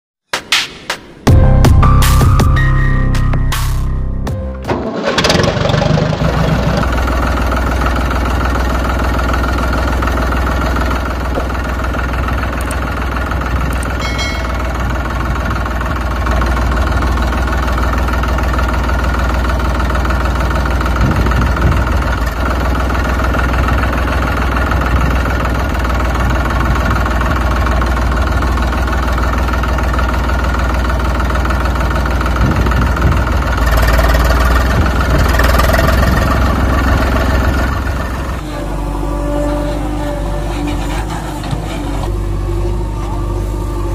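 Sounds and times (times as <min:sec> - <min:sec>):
tractor engine idling: 0:01.3 - 0:43.9.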